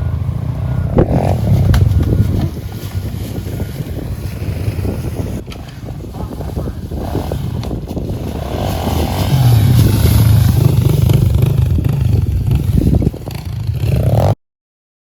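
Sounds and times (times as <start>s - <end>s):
motorbike engine revving: 0.0s - 14.4s.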